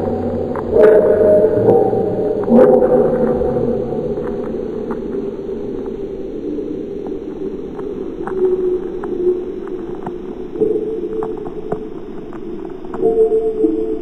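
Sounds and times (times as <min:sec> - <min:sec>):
low muffled droning tones: 0:00.0 - 0:14.0
static crackles: 0:00.0 - 0:14.0.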